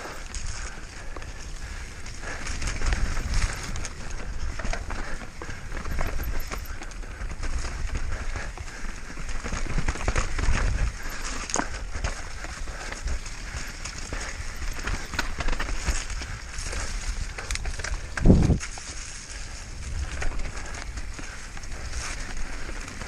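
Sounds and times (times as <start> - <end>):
tyres on dirt and rocks: 0.0 - 23.0
wind rumble on microphone: 0.0 - 23.0.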